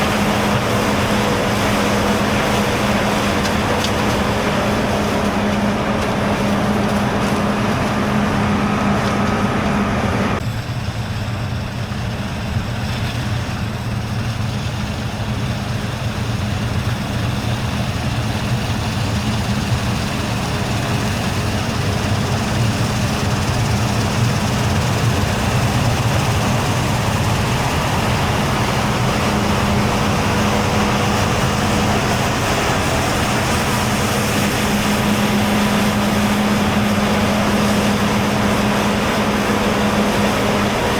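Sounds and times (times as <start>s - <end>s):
diesel farm machinery engine hum: 0.0s - 40.9s.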